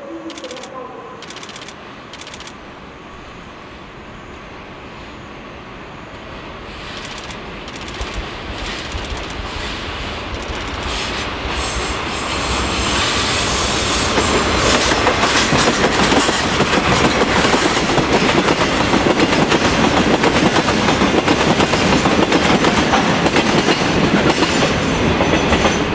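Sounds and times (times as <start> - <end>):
freight train passing: 0.0 - 25.9.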